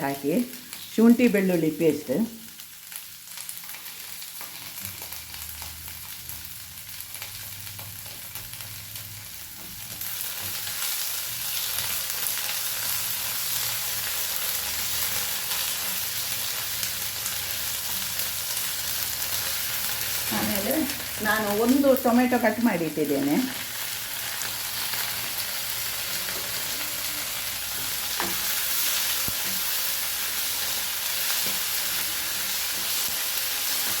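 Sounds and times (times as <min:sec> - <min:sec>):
onions sizzling in a pan: 0:00.0 - 0:34.0.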